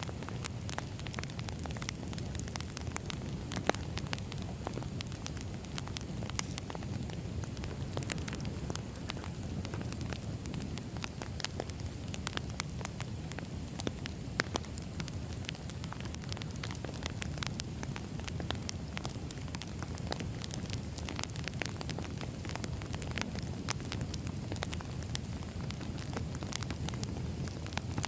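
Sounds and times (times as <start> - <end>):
firewood crackling: 0.0 - 28.0.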